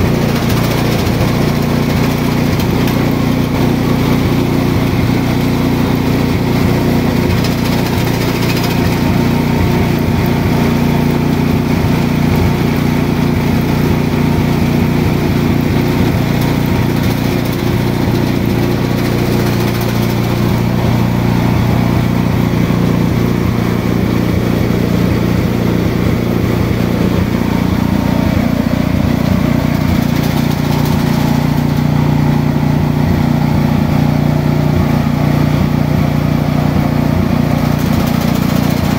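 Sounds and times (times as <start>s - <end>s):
small engine-driven machine running: 0.0s - 38.9s.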